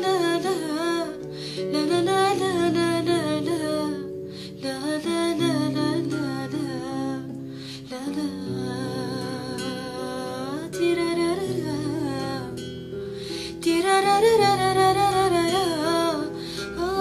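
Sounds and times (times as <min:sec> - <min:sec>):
acoustic guitar plucking: 0:00.0 - 0:17.0
woman singing: 0:00.0 - 0:17.0.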